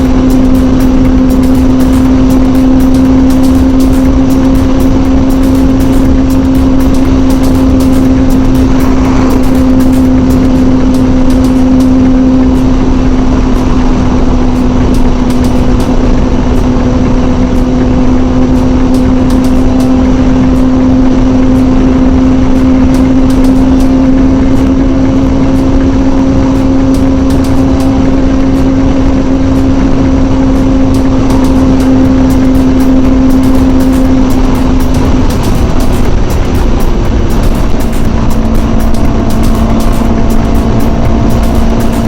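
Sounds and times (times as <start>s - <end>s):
motorcycle engine at high revs: 0.0s - 42.0s
wind rush on microphone: 0.0s - 42.0s.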